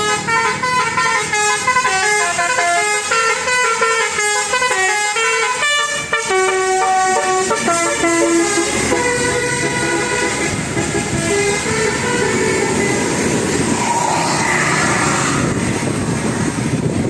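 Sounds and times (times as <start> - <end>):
bus air horns playing a melody: 0.0 - 14.4.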